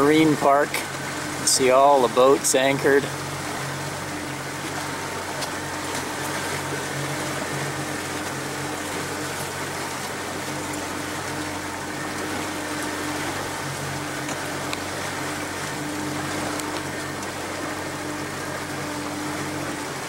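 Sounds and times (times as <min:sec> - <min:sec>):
outboard motor humming: 0:00.0 - 0:20.0
water washing along hull: 0:00.0 - 0:20.0.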